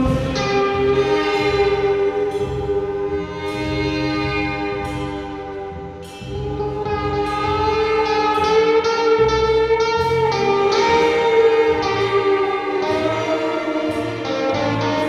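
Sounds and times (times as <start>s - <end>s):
live band music: 0.0s - 15.0s
pulsing bass: 0.0s - 15.0s.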